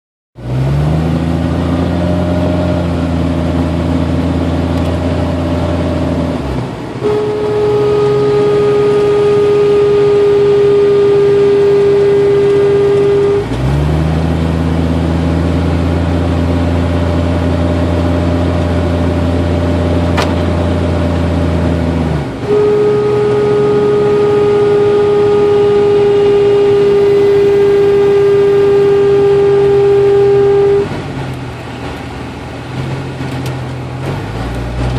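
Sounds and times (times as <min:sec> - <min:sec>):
car engine drone: 0:00.4 - 0:34.9
compressor whining: 0:01.2 - 0:34.9.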